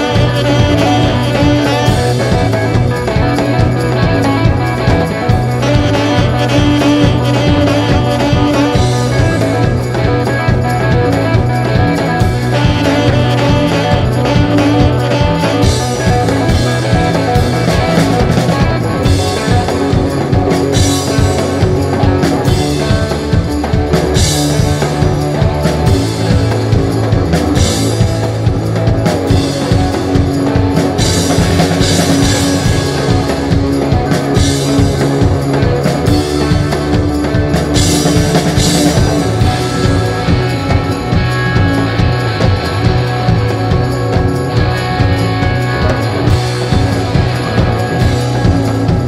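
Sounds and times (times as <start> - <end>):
rock band playing: 0.0 - 49.0.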